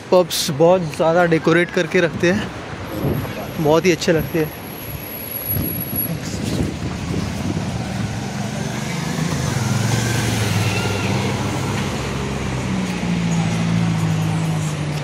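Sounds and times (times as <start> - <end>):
road noise: 0.0 - 15.0
vehicle engine hum: 0.8 - 15.0.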